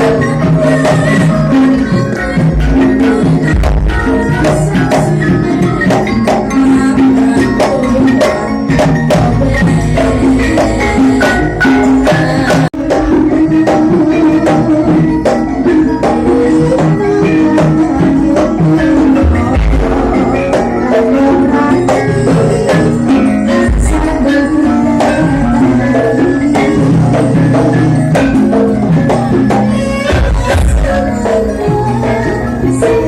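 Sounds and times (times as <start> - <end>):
loud music with busy percussion: 0.0 - 33.0.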